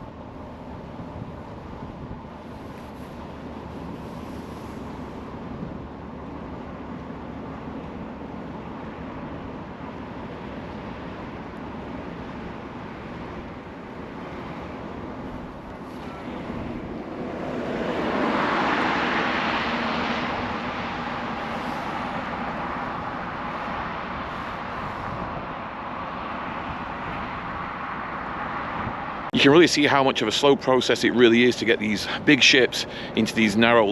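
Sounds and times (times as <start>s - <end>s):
rushing noise: 0.0s - 33.9s
ship diesel engine rumble: 0.0s - 33.9s
wind: 0.0s - 33.9s.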